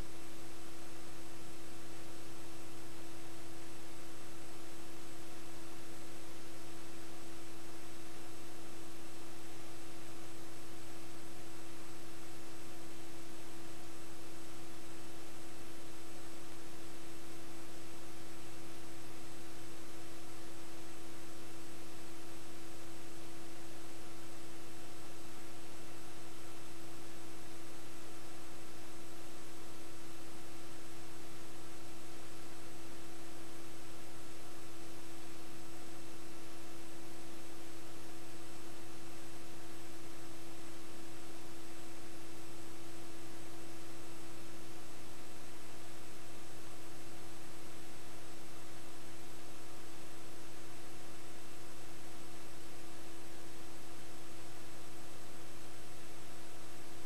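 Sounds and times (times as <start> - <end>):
constant hiss: 0.0 - 57.0
electrical hum: 0.0 - 57.0.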